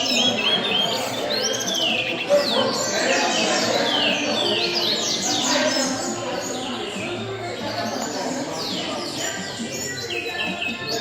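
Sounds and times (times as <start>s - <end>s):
low background murmur: 0.0s - 11.0s
songbirds chirping and singing: 0.0s - 11.0s.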